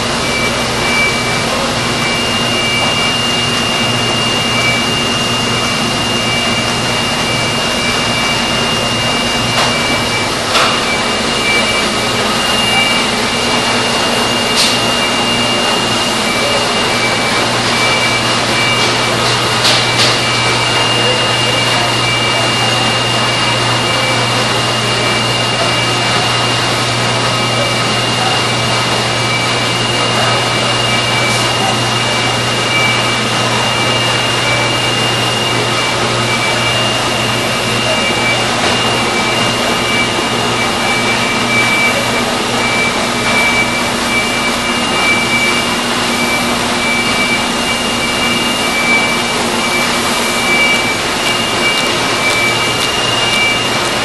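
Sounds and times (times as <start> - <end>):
high whine: 0.0 - 54.0
printing press whirring: 0.0 - 54.0.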